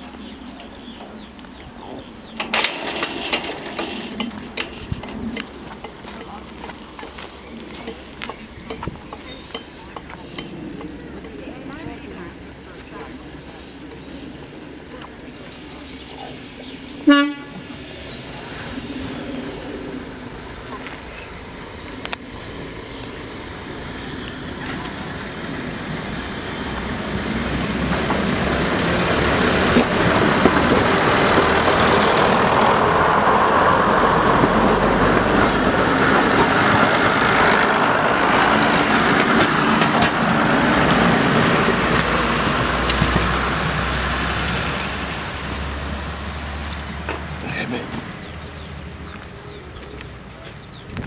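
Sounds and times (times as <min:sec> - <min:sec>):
diesel train engines running: 0:00.0 - 0:51.0
train wheels on rails: 0:00.0 - 0:51.0.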